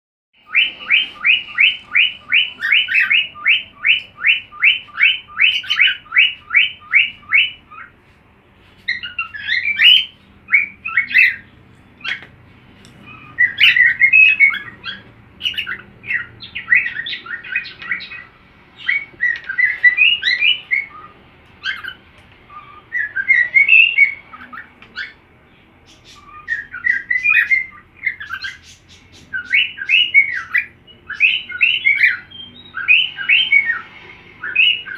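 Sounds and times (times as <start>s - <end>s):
cockatiel chirping and whistling: 0.4s - 7.9s, 8.8s - 12.2s, 13.0s - 25.2s, 25.9s - 34.9s.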